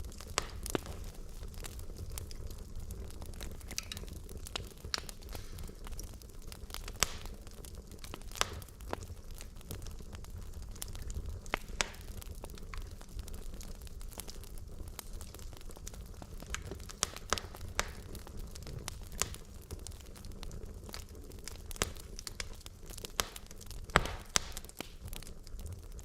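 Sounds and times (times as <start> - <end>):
fire rumbling: 0.0 - 26.0
wood crackling and popping: 0.0 - 26.0.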